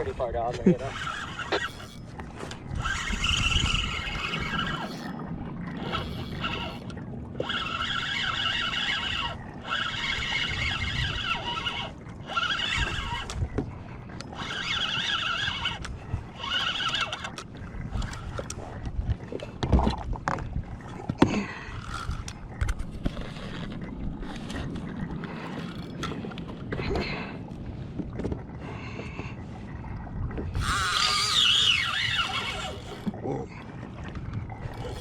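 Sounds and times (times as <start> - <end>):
fishing reel whirring: 0.0 - 19.0, 20.3 - 27.4, 30.5 - 33.2, 34.0 - 35.0.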